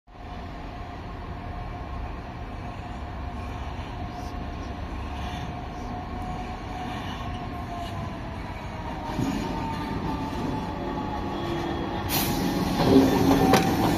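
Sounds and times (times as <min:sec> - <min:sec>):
diesel locomotive engine rumble: 0:00.1 - 0:13.9.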